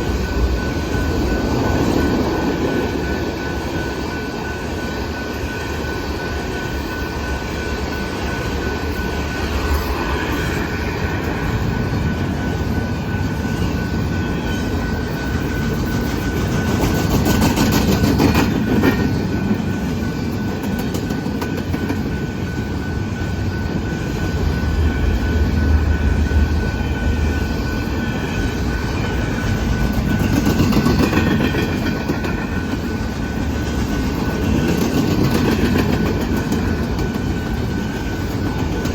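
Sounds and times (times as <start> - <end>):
rail clicks: 0.0 - 38.9
train wheels rumbling on rail: 0.0 - 38.9.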